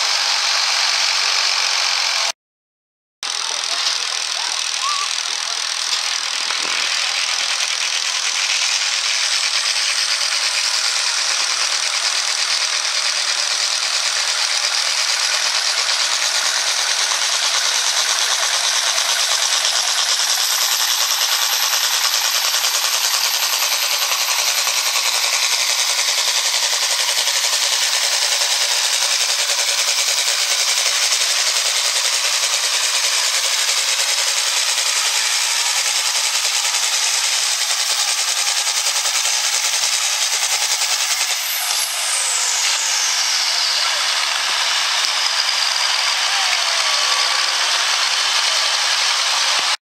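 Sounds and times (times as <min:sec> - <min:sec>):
tractor engine under full load: 0:00.0 - 0:02.4, 0:03.2 - 0:49.8.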